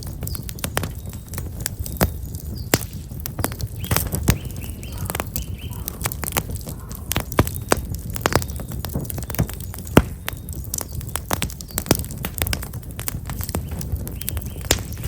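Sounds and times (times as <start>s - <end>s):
fire rumbling: 0.0s - 15.0s
firewood crackling and popping: 0.0s - 15.0s
small birds chirping: 0.0s - 15.0s.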